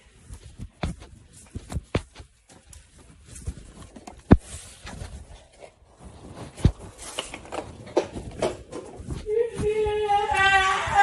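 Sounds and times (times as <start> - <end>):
knocks and rustling: 0.2 - 10.0.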